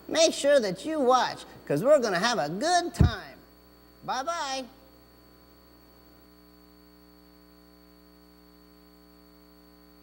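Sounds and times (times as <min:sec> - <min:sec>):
faint electrical hum and hiss: 0:00.0 - 0:10.0.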